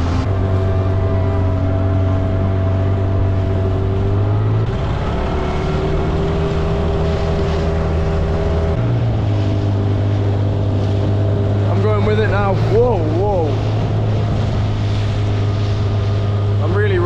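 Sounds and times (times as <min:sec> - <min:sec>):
boat engine running: 0:00.0 - 0:17.0
water wash: 0:00.0 - 0:17.0.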